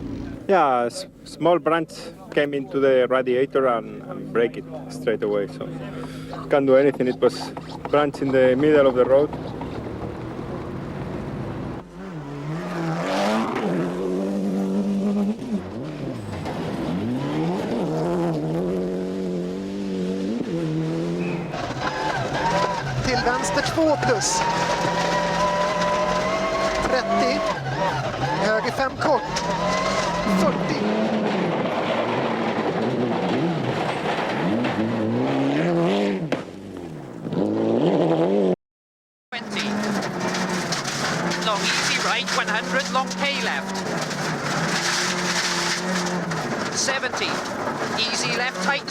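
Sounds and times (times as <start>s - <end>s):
rally car engine revving: 0.0s - 0.6s, 3.3s - 38.6s, 39.4s - 48.9s.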